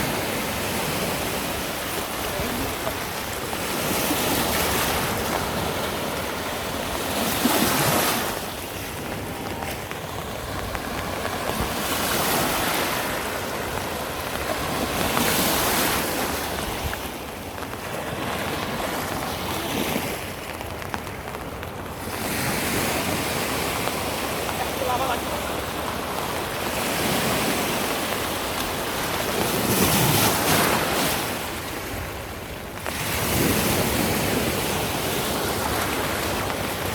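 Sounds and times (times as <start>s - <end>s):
rushing river water: 0.0s - 36.9s.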